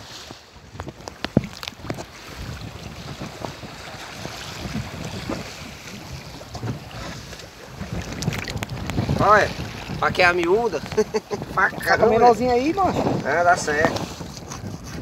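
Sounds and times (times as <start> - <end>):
sea noise: 0.0 - 15.0
water washing against a hull: 0.0 - 15.0
wind buffeting the microphone: 0.0 - 15.0.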